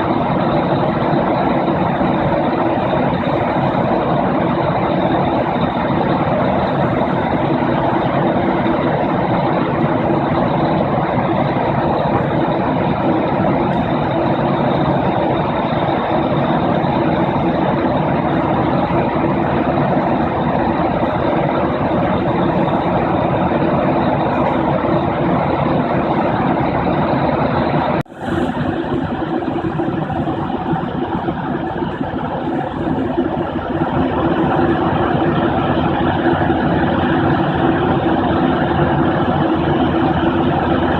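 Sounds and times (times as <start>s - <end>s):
aircraft engine drone: 0.0s - 40.9s
constant high whine: 0.0s - 40.9s.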